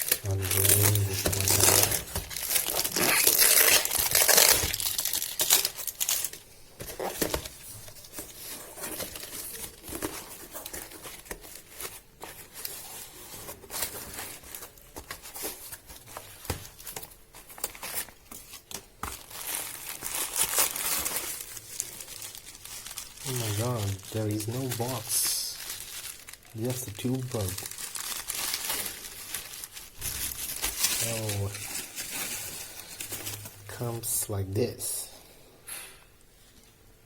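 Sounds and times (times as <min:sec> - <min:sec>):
packaging crinkling: 0:00.0 - 0:33.8.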